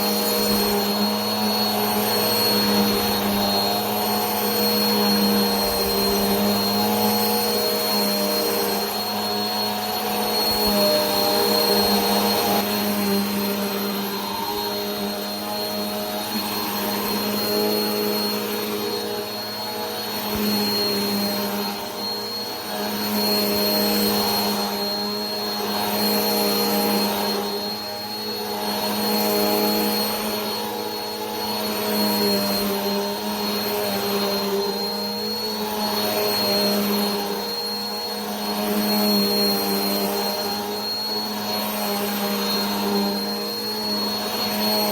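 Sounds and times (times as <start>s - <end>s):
vacuum cleaner motor whining: 0.0s - 44.9s.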